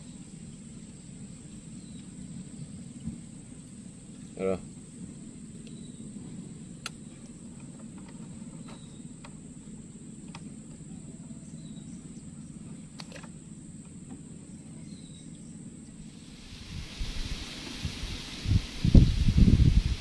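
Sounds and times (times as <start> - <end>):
low even hum: 0.0 - 20.0.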